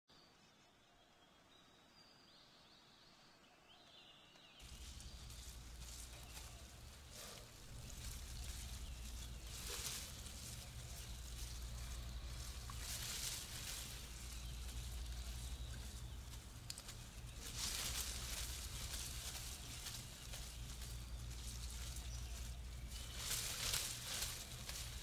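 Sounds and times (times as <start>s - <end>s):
small bird chirps: 0.2s - 25.0s
low hum: 4.6s - 25.0s
steady rustling hiss: 4.6s - 25.0s.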